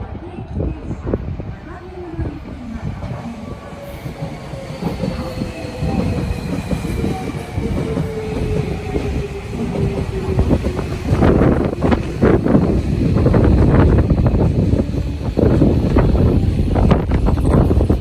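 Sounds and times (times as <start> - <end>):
train wheels rumbling: 0.0 - 18.0
wind buffeting microphone: 0.0 - 18.0.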